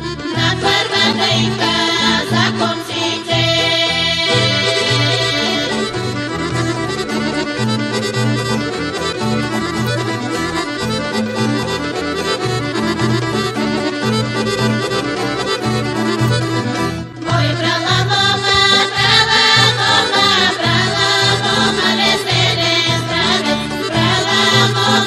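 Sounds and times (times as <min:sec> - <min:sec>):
lively folk dance music: 0:00.0 - 0:25.0.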